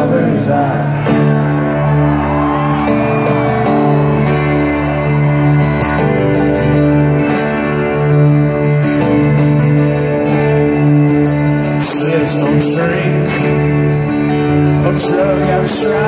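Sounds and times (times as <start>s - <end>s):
guitar playing held chords: 0.0s - 16.0s.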